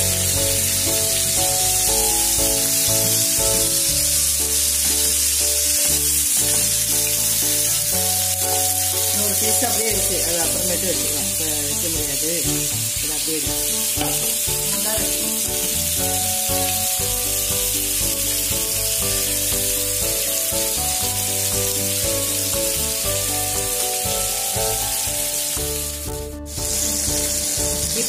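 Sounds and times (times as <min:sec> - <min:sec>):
background music: 0:00.0 - 0:28.0
chicken sizzling in oil: 0:00.0 - 0:28.0.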